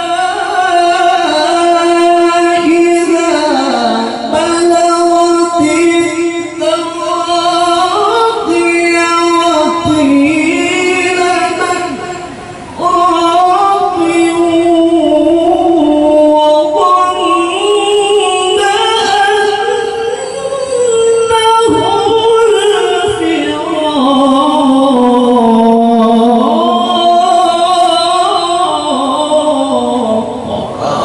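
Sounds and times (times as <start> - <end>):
man chanting into a microphone: 0.0 - 31.0.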